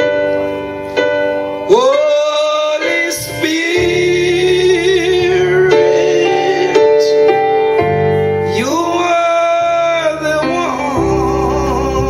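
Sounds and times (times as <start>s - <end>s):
sustained keyboard chords: 0.0s - 12.0s
person singing with vibrato: 1.4s - 12.0s.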